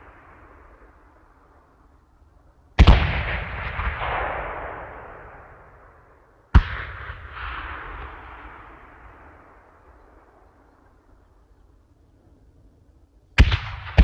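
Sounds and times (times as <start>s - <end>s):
crackling rumbling tail: 0.0s - 14.0s.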